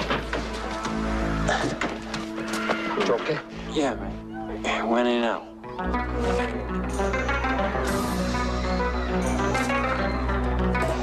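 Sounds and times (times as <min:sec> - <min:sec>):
tense film score: 0:00.0 - 0:11.0.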